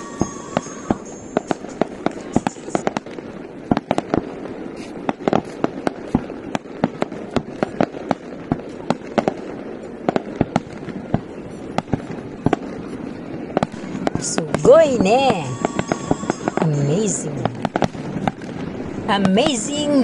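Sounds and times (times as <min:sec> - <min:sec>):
steady wash of noise: 0:00.0 - 0:07.8, 0:08.7 - 0:20.0
fireworks bangs: 0:00.0 - 0:20.0.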